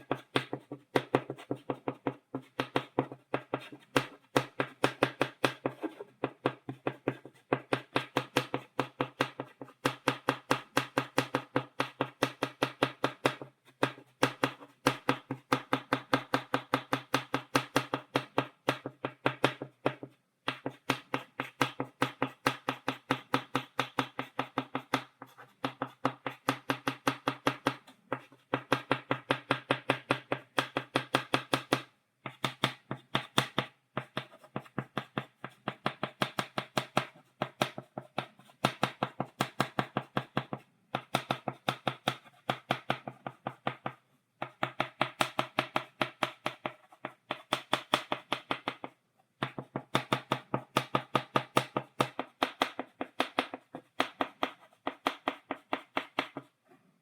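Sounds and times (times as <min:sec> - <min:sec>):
chalk tapping on blackboard: 0:00.0 - 0:56.6.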